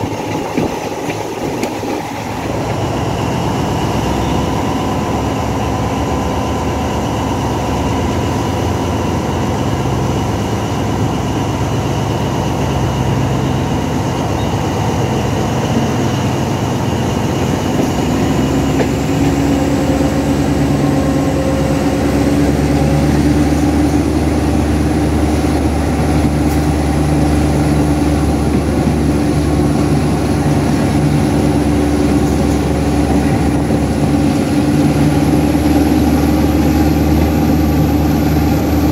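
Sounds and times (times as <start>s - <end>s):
diesel locomotive engine under load: 0.0s - 38.9s
high whine climbing in pitch: 0.0s - 38.9s
train track noise: 0.0s - 38.9s.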